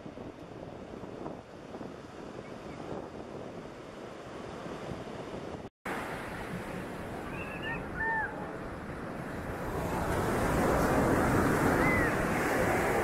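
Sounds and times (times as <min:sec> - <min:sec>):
surf washing on beach: 0:00.0 - 0:13.0.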